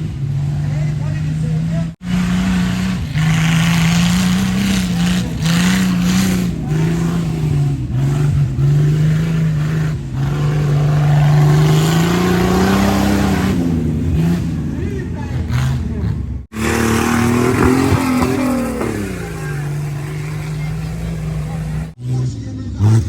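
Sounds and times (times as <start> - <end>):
race vehicle engine revving: 0.0 - 23.0.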